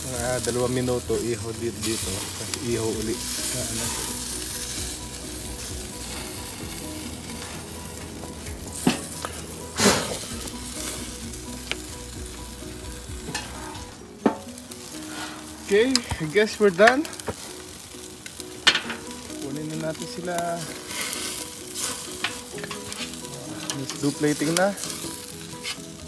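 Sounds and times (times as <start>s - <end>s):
chicken sizzling on a grill: 0.0s - 26.0s.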